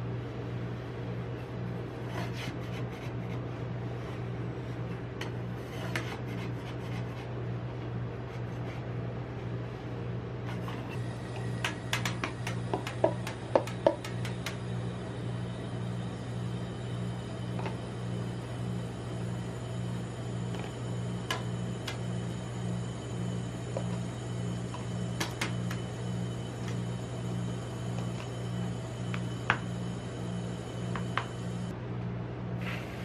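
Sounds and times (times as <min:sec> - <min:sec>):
pulsing low refrigeration hum: 0:00.0 - 0:33.0.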